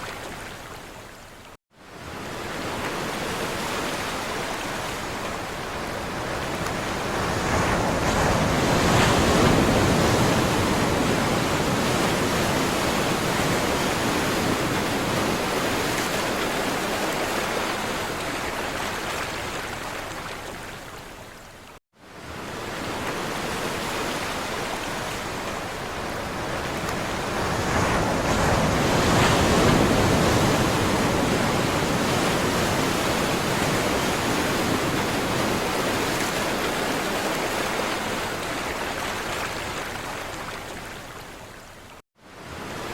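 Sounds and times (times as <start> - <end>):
sea waves washing on shore: 1.9 - 21.2, 22.1 - 42.9.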